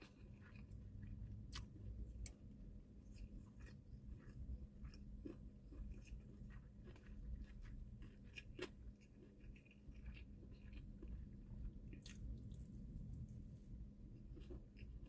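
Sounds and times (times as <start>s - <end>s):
faint chewing: 0.0s - 2.4s, 3.0s - 15.0s.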